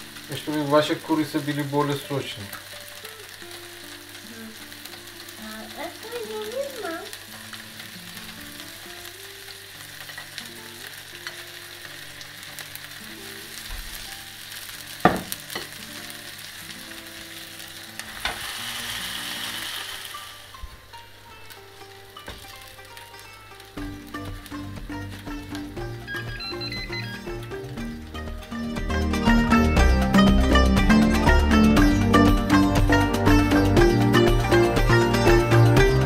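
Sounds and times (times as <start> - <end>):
meat sizzling on a grill: 0.0 - 36.0.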